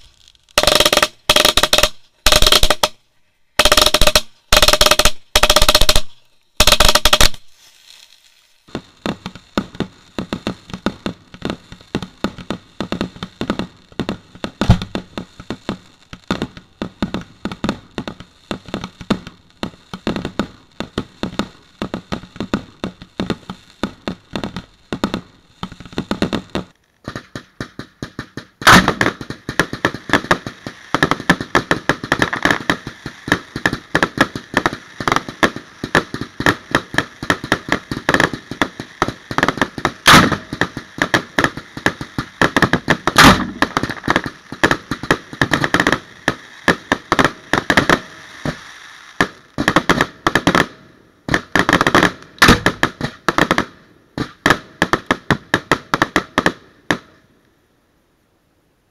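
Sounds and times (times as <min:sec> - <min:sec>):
loud fireworks booms: 0:00.0 - 0:07.7, 0:08.6 - 0:57.2
fireworks cracking and banging: 0:00.0 - 0:57.3.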